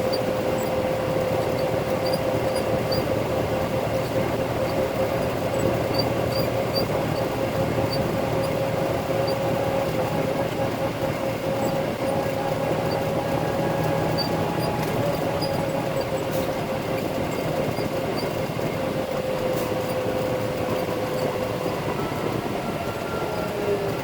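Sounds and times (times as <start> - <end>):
drivetrain whine: 0.0 - 24.0
truck diesel engine running: 0.0 - 24.0.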